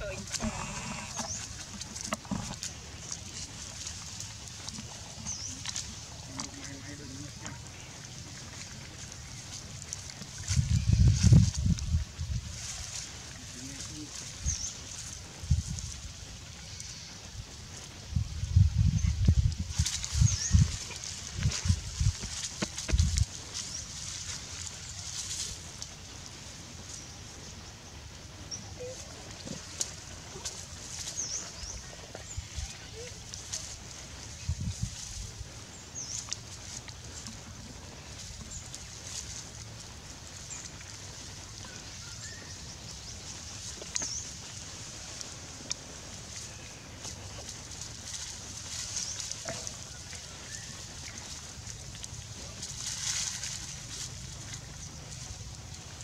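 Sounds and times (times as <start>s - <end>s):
dry leaves rustling: 0.0s - 18.1s, 19.3s - 56.0s.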